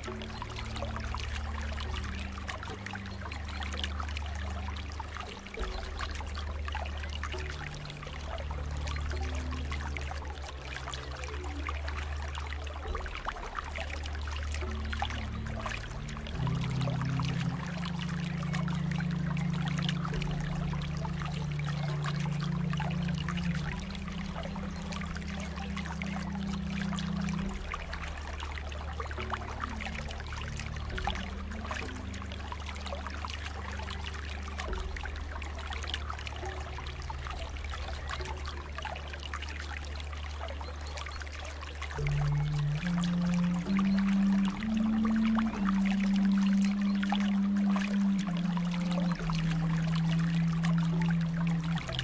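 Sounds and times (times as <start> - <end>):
low hum: 0.0 - 52.0
small water splashes: 0.0 - 52.0
water pouring and trickling: 0.0 - 52.0.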